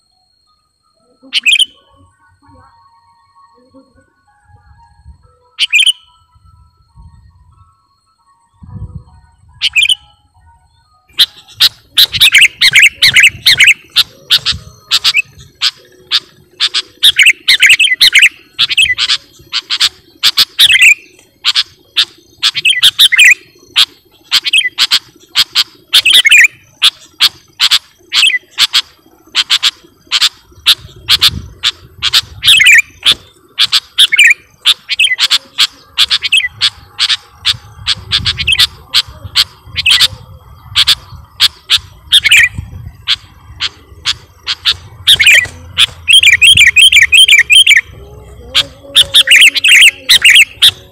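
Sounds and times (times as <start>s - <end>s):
bird chirping: 0.0s - 3.9s, 5.5s - 7.7s, 8.6s - 50.9s.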